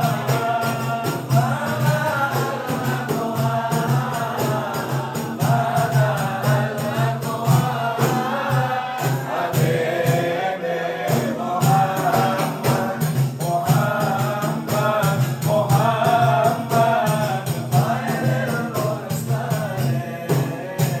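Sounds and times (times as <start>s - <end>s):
frame drums beating: 0.0s - 21.0s
men singing a devotional chant: 0.0s - 21.0s.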